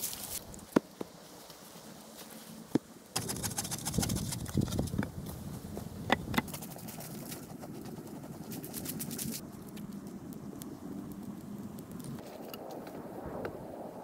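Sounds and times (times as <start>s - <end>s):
hands scraping dry soil and leaves: 0.0s - 13.0s.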